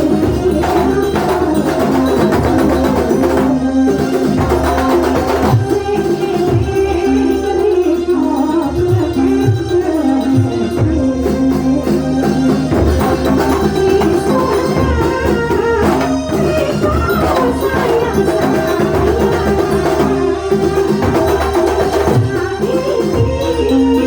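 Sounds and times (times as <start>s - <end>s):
drums and percussion: 0.0s - 24.0s
held melodic notes: 0.0s - 24.0s.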